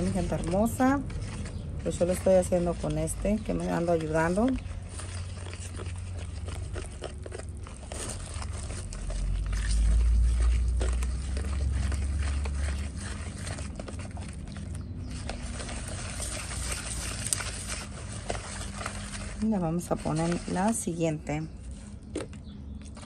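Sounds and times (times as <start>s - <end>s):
whisk scraping a plastic bowl: 0.0s - 23.0s.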